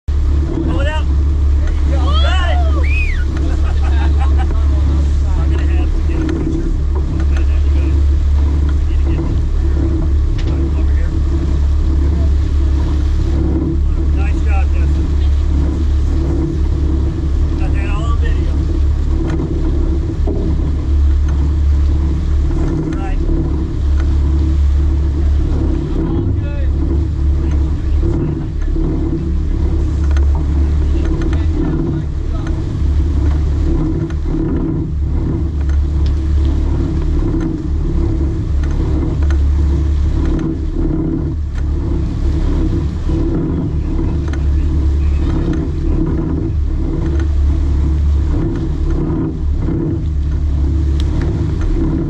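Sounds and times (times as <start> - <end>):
boat engine rumbling: 0.0 - 52.0.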